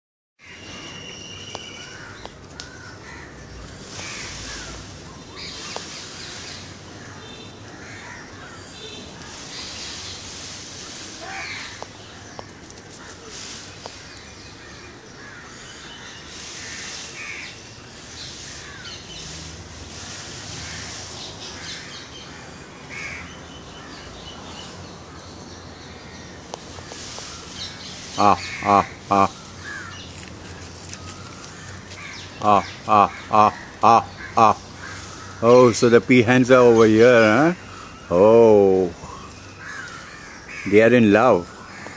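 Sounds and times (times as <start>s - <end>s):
harsh bird calls: 0.4s - 41.9s
outdoor hiss: 0.5s - 41.9s.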